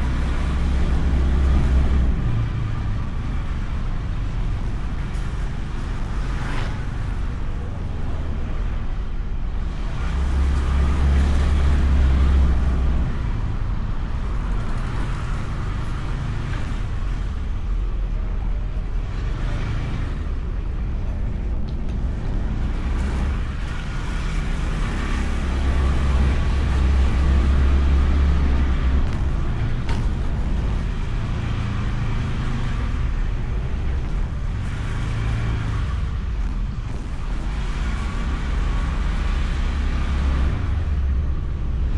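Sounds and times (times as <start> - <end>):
scooter engine and road rumble: 0.0 - 41.9
wind buffeting microphone: 0.0 - 41.9.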